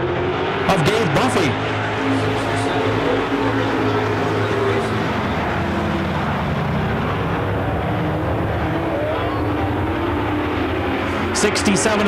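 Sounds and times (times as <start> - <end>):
race truck engines running hard: 0.0 - 12.0.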